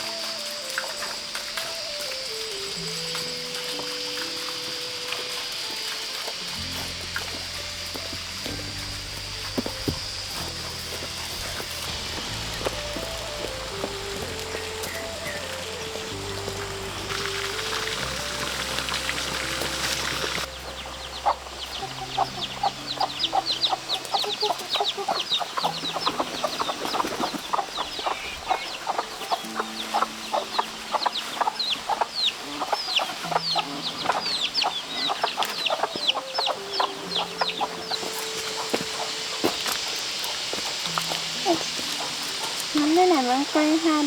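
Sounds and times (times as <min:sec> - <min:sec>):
chickens clucking: 0:00.0 - 0:44.0
chicks peeping: 0:02.7 - 0:44.0.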